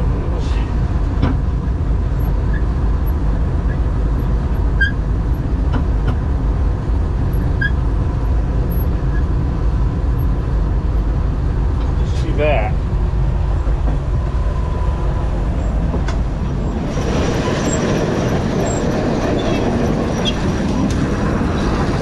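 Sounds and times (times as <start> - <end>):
combine engine rumble: 0.0 - 22.0.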